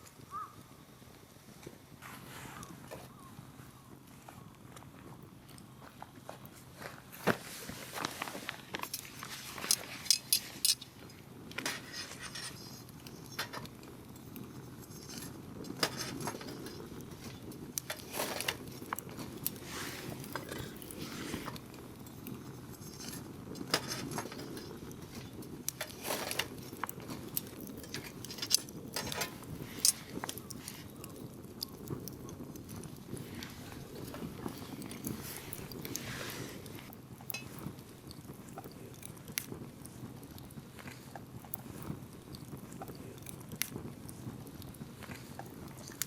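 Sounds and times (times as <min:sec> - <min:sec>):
firewood crackling and popping: 0:00.0 - 0:46.0
rush of flame: 0:07.1 - 0:46.0.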